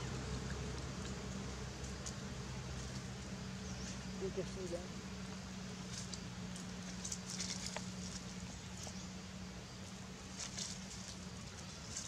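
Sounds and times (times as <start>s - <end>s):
dry leaves rustling: 0.0s - 12.0s
steady low hum: 0.0s - 12.0s.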